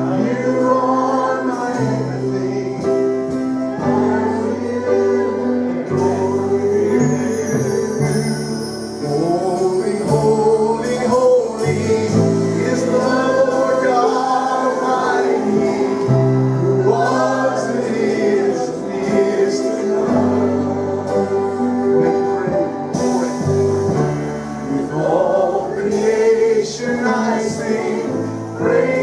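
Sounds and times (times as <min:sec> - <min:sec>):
choir singing over a band: 0:00.0 - 0:29.0.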